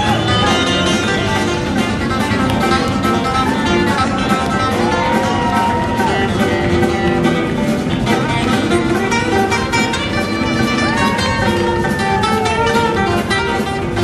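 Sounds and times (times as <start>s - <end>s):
banjo: 0.0s - 14.0s
live bluegrass band playing: 0.0s - 14.0s
plucked acoustic guitar: 0.0s - 14.0s.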